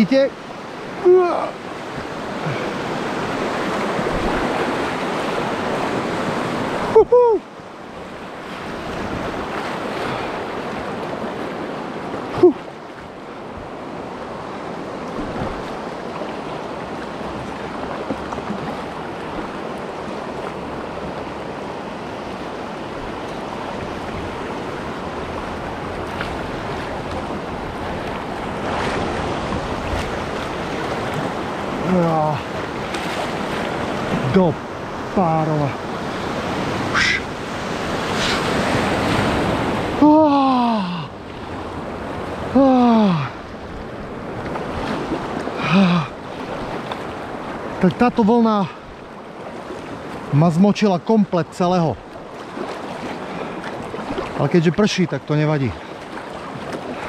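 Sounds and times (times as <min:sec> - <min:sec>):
river water rushing over rapids: 0:00.0 - 0:57.0.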